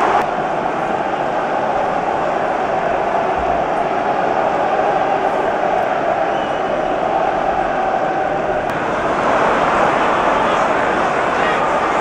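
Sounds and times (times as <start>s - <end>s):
stadium crowd din: 0.0s - 12.0s.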